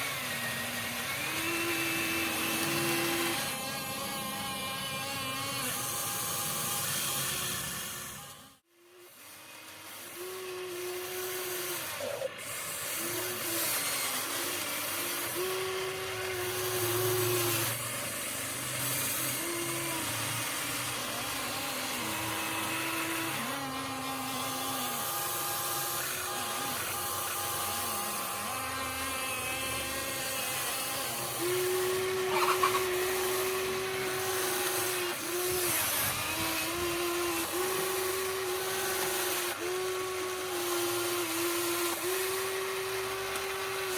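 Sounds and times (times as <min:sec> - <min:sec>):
toy excavator motors whining: 0:00.0 - 0:43.9.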